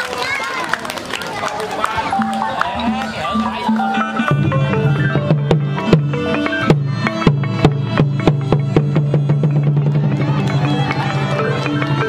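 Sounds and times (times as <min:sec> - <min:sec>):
melody of struck notes: 0:01.9 - 0:12.0
drum strokes: 0:02.0 - 0:12.0.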